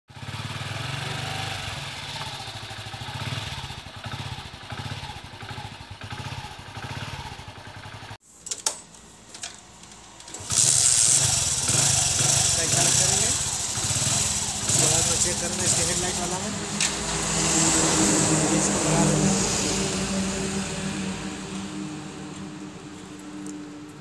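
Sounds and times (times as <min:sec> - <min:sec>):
motorcycle engine running: 0:00.1 - 0:08.2, 0:10.0 - 0:23.9.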